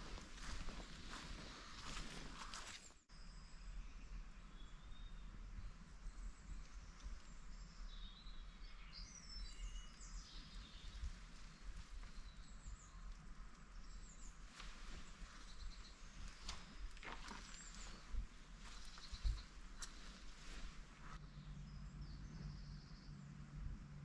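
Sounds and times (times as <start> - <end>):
small birds chirping: 0.0 - 23.4
low outdoor background noise: 0.0 - 24.0.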